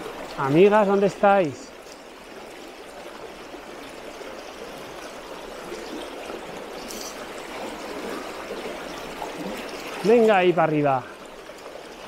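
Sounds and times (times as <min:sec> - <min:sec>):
river flowing over stones: 0:00.0 - 0:12.0.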